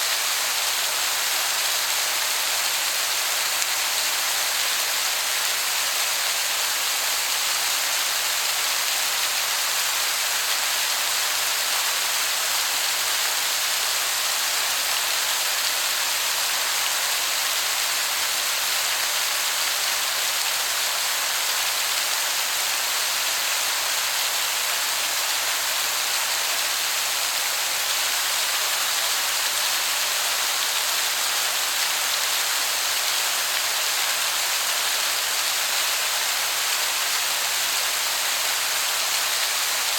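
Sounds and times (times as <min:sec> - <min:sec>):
distant waterfall hiss: 0:00.0 - 0:39.9.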